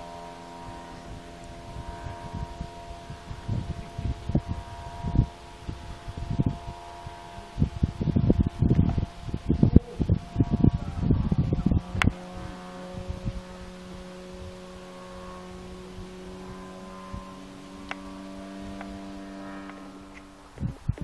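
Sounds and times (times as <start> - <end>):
steady low hum: 0.0 - 21.0
wind buffeting microphone: 0.0 - 21.0.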